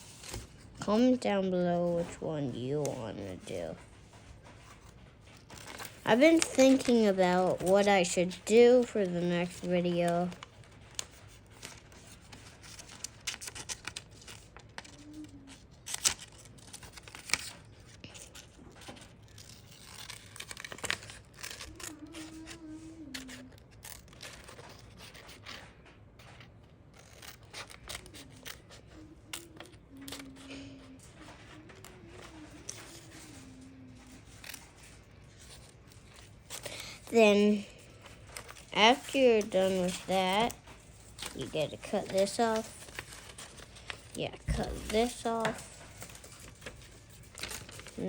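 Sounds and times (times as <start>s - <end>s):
paper rustling and crinkling: 0.0s - 48.0s
scissors snipping paper: 5.4s - 48.0s.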